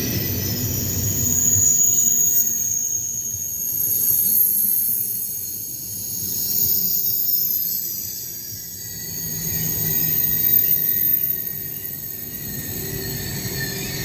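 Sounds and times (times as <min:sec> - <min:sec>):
high-pitched whine: 0:00.0 - 0:14.0
train rumbling past: 0:00.0 - 0:14.0.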